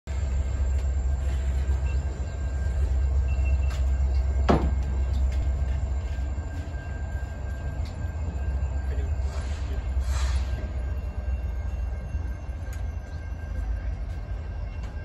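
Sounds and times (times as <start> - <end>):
freight train rumbling: 0.1 - 15.0.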